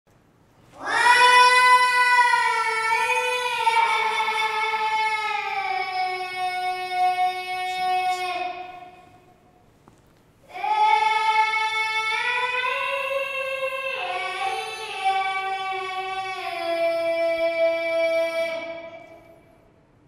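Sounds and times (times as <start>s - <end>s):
high voice singing long note: 0.8s - 9.3s, 10.5s - 19.6s.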